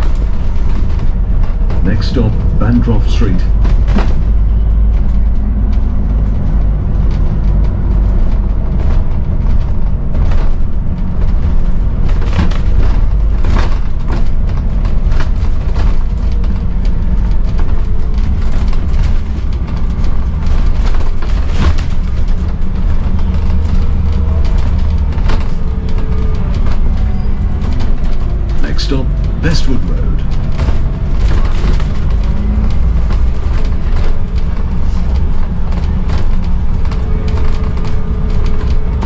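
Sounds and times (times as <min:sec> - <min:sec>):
bus diesel engine running: 0:00.0 - 0:39.0
rattles and knocks from bus body: 0:00.0 - 0:39.0.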